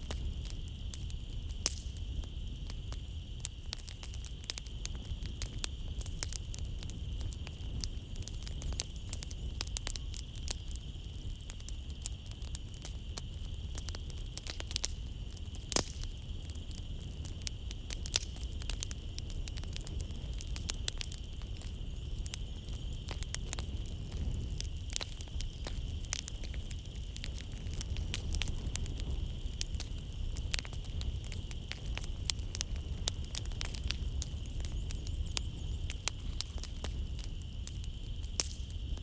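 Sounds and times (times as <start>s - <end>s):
night insects chirring: 0.0s - 39.0s
wood fire crackling: 0.0s - 39.0s.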